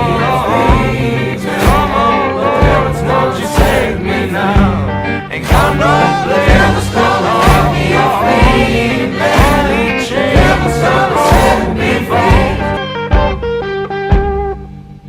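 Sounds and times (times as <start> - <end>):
group of voices singing: 0.0 - 12.9
steady beat: 0.0 - 13.6.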